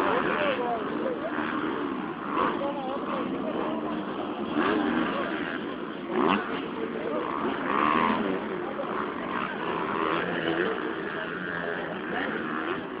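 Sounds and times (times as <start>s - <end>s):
motocross bike engines: 0.0s - 13.0s
people talking: 0.0s - 13.0s.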